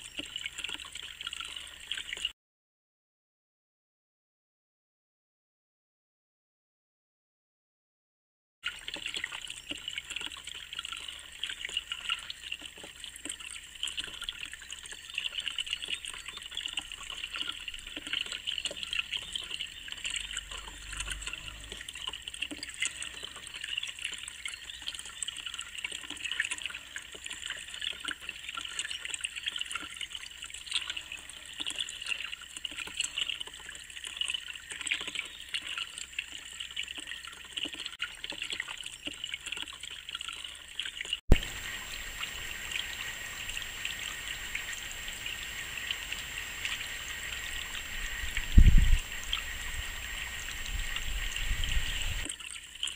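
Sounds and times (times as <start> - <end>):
fountain water trickling: 0.0 - 2.3, 8.6 - 52.9.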